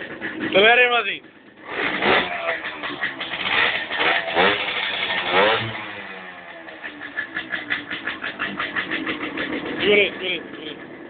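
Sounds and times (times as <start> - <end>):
moped engine revving and idling: 0.0 - 11.0.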